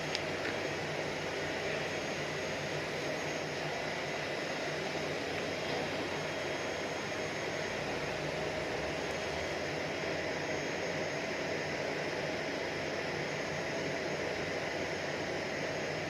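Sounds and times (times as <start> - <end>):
high jet whine: 0.0 - 16.0.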